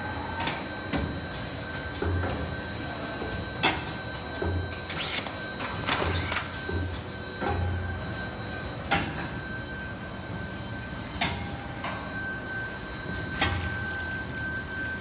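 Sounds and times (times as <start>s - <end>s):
machine hum and whine: 0.0s - 15.0s.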